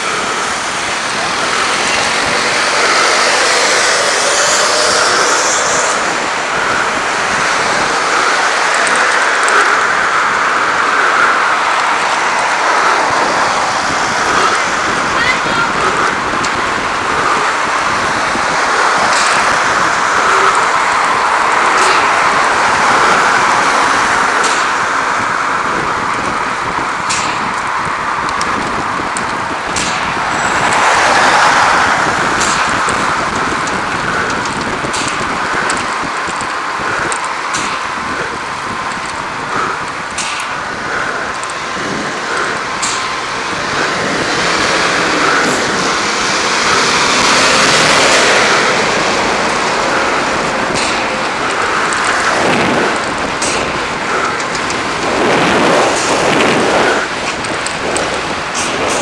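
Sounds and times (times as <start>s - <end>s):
road traffic rushing: 0.0s - 59.0s
wind: 0.0s - 59.0s.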